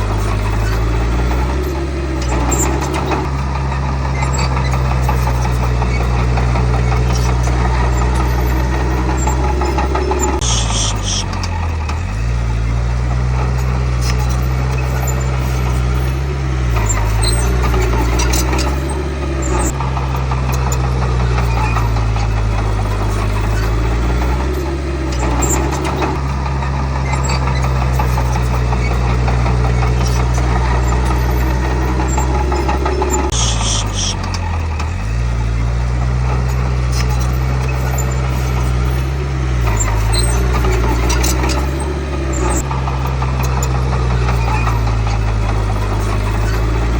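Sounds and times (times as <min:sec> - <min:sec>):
bulldozer diesel engine running: 0:00.0 - 0:46.9
short high squeaks: 0:00.0 - 0:46.9.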